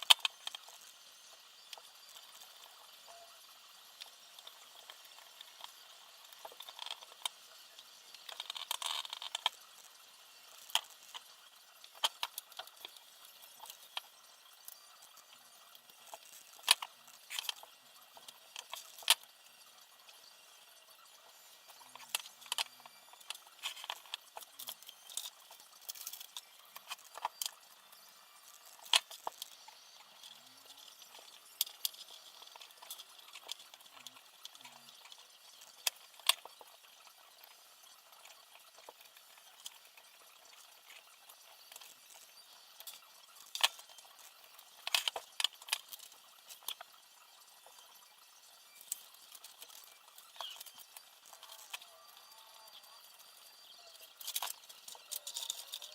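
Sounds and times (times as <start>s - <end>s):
small parts and tools clicking: 0.0s - 55.9s.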